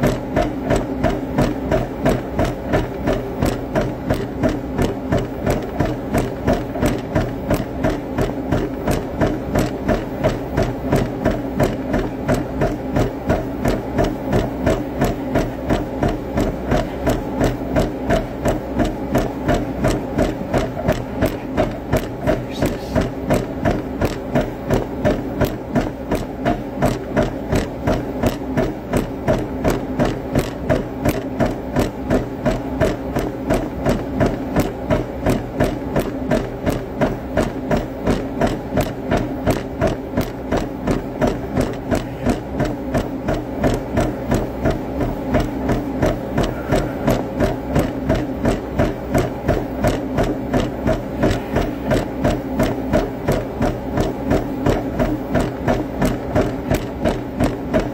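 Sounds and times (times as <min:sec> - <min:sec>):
rhythmic knocking: 0:00.0 - 0:57.9.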